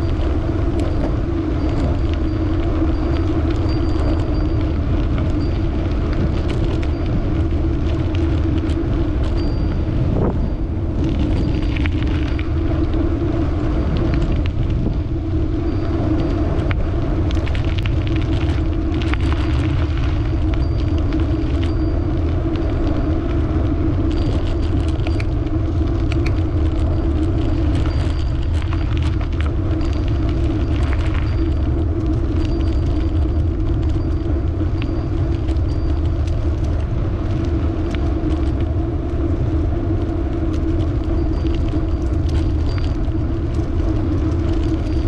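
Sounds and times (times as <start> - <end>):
bicycle tyres rolling: 0.0 - 45.0
wind rushing over microphone: 0.0 - 45.0.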